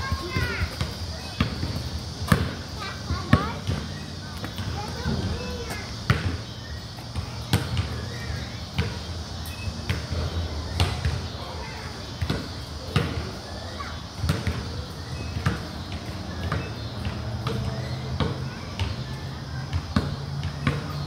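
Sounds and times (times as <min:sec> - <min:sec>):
basketball bouncing on concrete: 0:00.0 - 0:13.3, 0:14.2 - 0:21.0.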